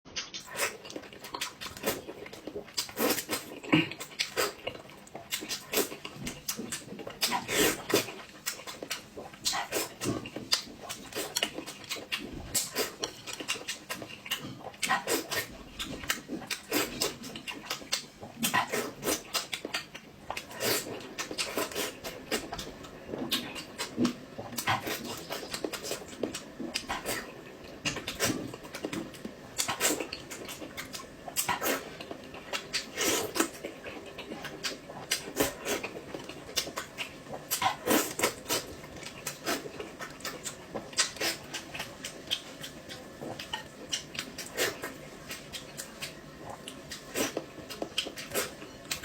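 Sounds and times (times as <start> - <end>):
wet crunching and chewing: 0.2 - 49.0.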